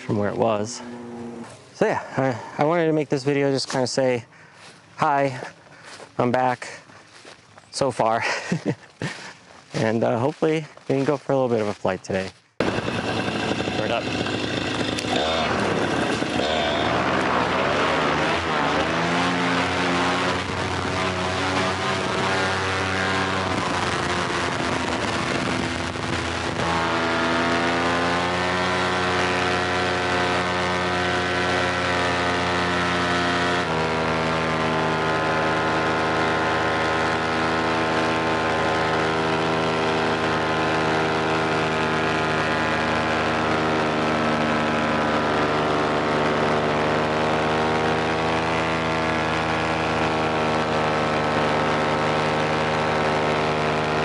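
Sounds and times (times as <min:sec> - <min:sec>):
paramotor engine running: 0:00.0 - 0:11.8, 0:12.6 - 0:54.0.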